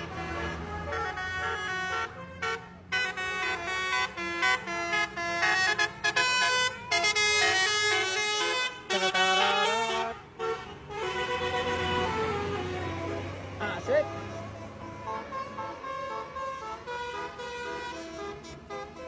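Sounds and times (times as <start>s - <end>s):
musical air horns playing a tune: 0.0s - 13.3s, 14.1s - 19.0s.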